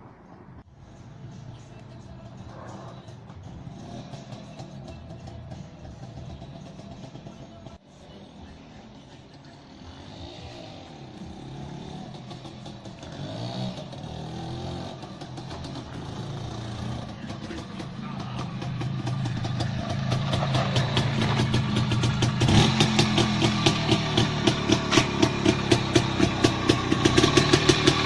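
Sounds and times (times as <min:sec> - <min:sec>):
two-stroke motorcycle engine revving: 0:02.8 - 0:07.6, 0:09.6 - 0:28.0.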